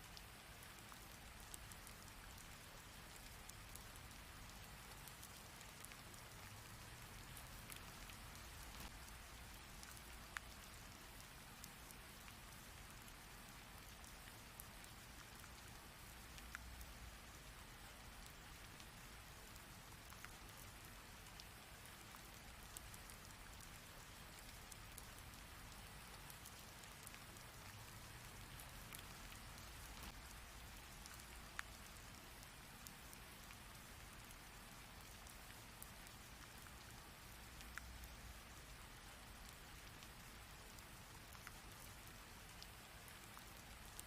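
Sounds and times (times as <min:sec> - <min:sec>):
rain falling softly: 0:00.0 - 0:44.0.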